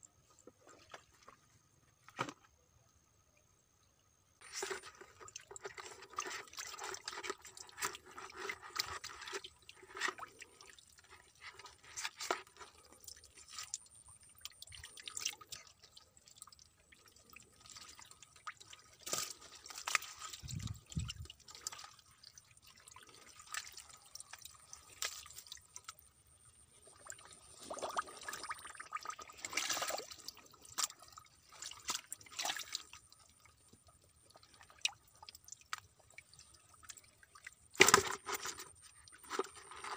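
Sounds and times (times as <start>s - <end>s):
mud and water splashing: 4.4s - 39.9s.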